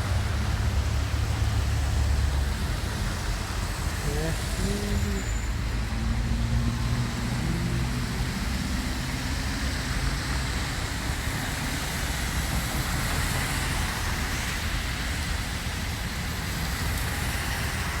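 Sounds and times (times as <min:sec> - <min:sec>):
traffic on wet road: 0:00.0 - 0:18.0.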